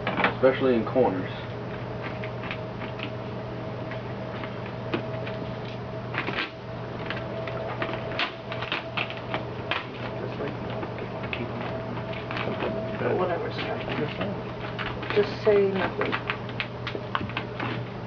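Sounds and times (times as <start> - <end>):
steady background hum: 0.0 - 18.0
film clicks and crackles: 1.7 - 3.2, 3.9 - 18.0.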